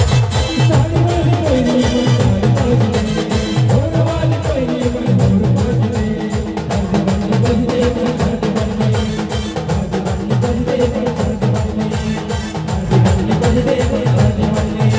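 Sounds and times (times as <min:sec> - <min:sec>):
fast drum beat: 0:00.0 - 0:14.9.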